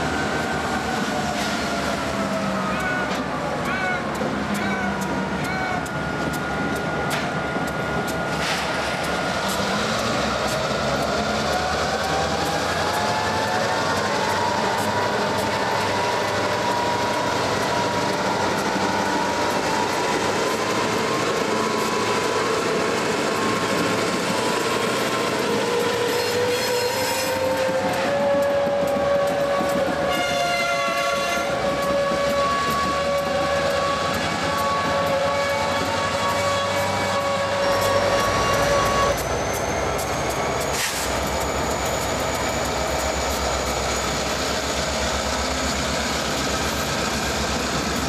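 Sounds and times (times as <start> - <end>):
diesel locomotive engines: 0.0 - 48.0
rail noise: 0.0 - 48.0.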